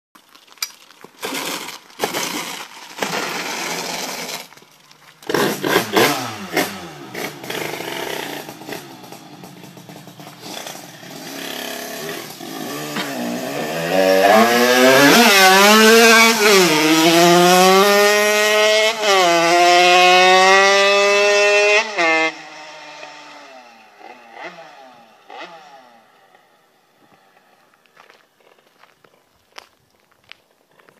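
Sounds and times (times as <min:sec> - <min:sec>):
moped engine revving: 0:01.3 - 0:04.5, 0:05.2 - 0:27.6.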